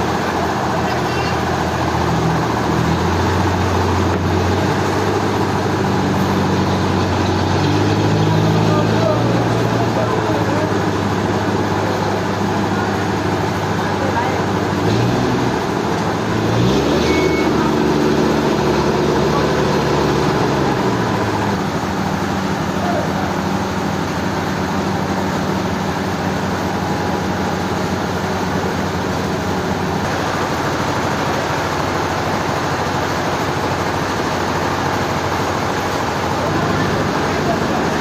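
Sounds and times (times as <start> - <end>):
heavy machinery engine running: 0.0 - 38.0.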